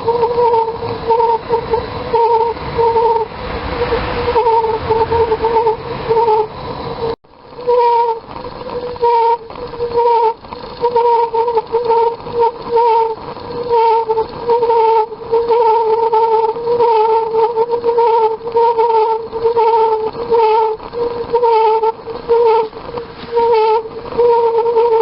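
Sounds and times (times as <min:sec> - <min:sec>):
heater burner hooting resonance: 0:00.0 - 0:25.0.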